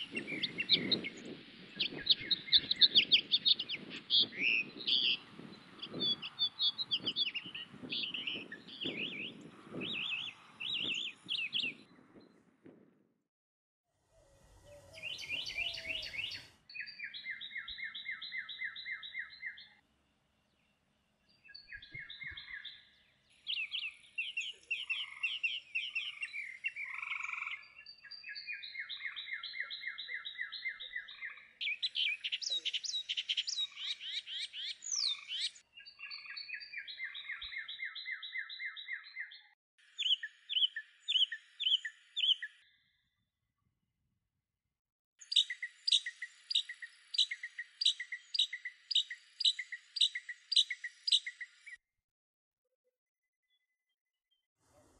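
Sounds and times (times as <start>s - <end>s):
songbirds singing trills: 0.0s - 12.4s, 14.4s - 19.8s, 20.4s - 43.0s, 45.2s - 51.8s.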